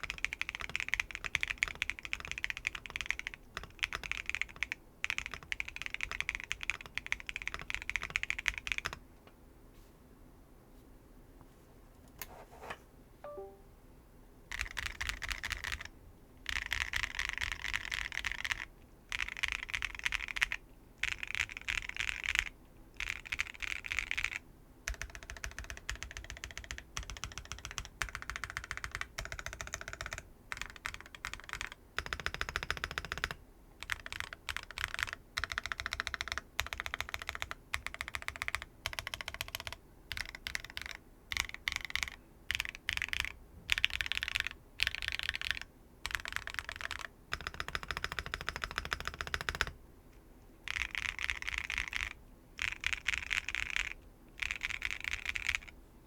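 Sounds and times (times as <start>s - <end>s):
mechanical keyboard typing: 0.0s - 9.0s, 14.5s - 49.8s, 50.7s - 55.8s.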